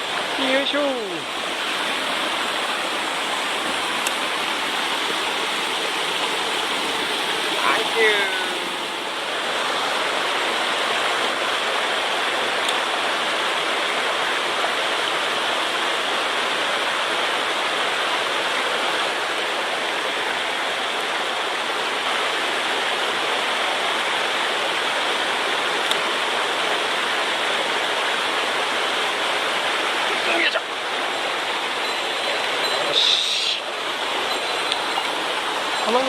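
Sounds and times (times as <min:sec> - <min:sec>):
mountain stream rushing: 0:00.0 - 0:36.0.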